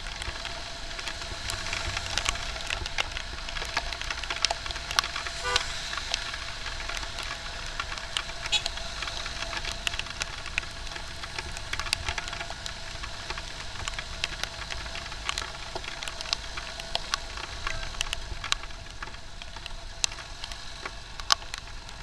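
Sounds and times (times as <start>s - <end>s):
motorcycle road and engine noise: 0.0s - 22.0s
raindrops ticking on camera: 0.0s - 22.0s.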